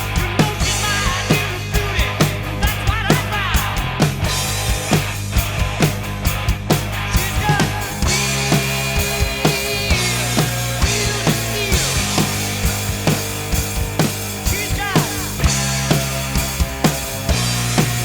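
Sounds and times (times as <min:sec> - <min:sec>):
bass guitar: 0:00.0 - 0:18.0
drum kit rock beat: 0:00.0 - 0:18.0
heavy metal track: 0:00.0 - 0:18.0.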